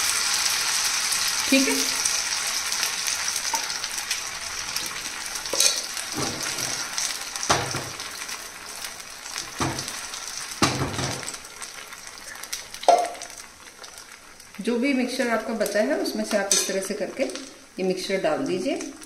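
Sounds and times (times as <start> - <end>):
batter sizzling in oil: 0.0 - 19.0.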